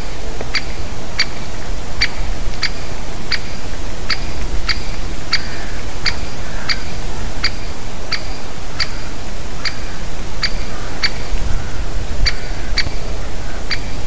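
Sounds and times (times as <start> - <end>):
woodpecker kik calls: 0.0 - 14.0.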